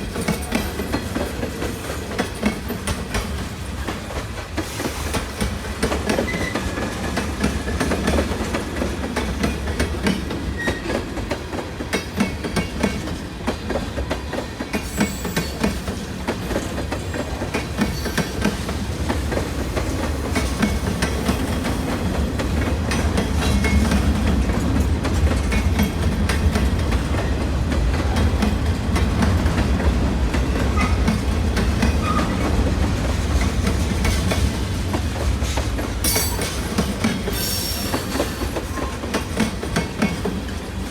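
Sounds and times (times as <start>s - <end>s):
railroad cars rumbling: 0.0s - 40.9s.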